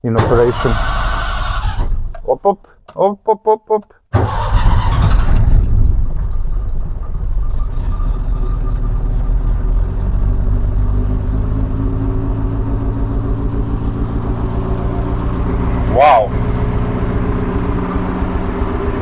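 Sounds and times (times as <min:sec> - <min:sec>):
car engine idling: 0:00.2 - 0:02.9, 0:04.2 - 0:09.8, 0:10.4 - 0:19.0.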